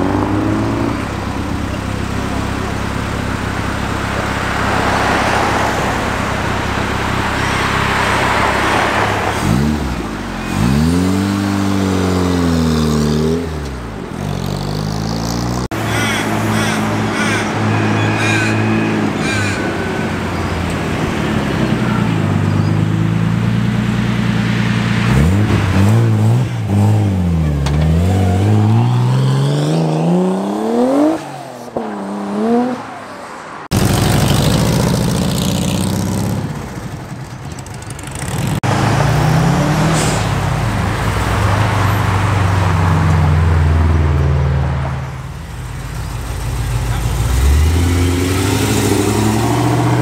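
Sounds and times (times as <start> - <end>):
car engine accelerating: 0.0 - 50.0.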